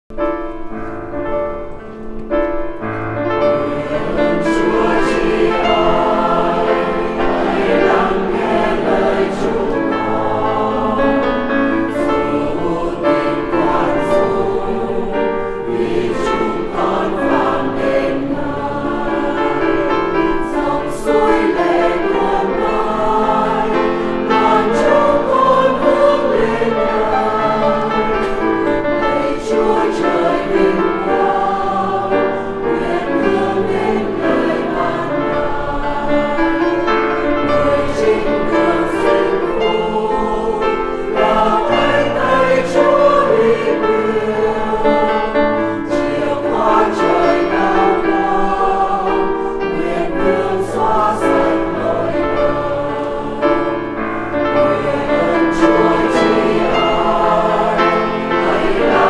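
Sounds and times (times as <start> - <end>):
church choir singing a hymn: 0.2 - 59.0.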